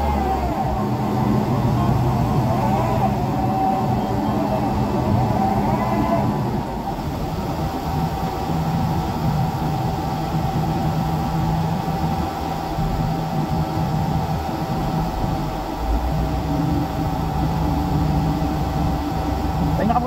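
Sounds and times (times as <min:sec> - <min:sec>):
diesel crane engine humming: 0:00.0 - 0:20.0.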